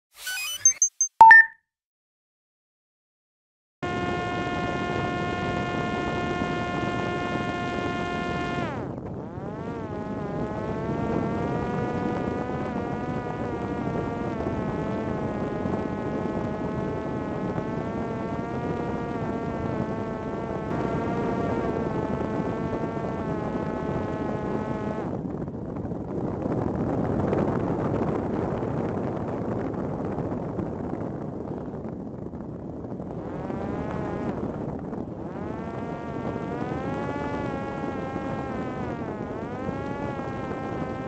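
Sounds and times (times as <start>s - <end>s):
drone motor and propeller whining: 3.8s - 41.0s.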